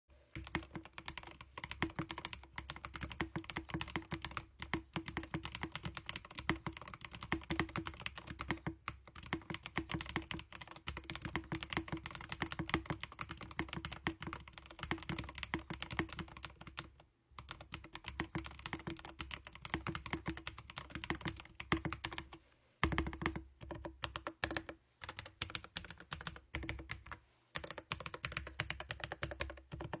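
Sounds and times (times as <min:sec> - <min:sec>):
mechanical keyboard typing: 0:00.4 - 0:30.0.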